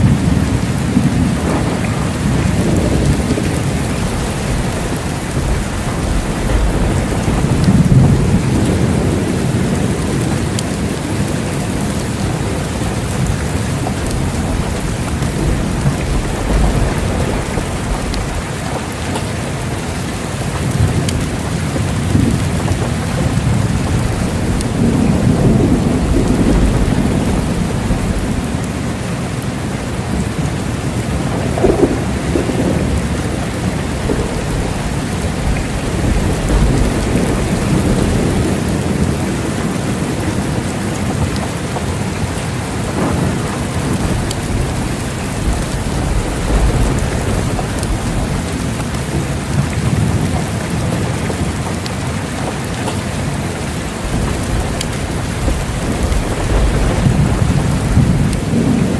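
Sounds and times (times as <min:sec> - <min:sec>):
low thunder rumbling: 0:00.0 - 0:58.9
steady rain: 0:00.0 - 0:58.9.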